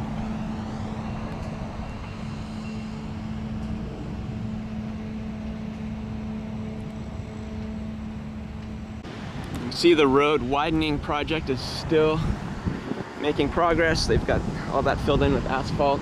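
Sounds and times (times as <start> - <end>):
car tyre and engine rumble: 0.0 - 16.0.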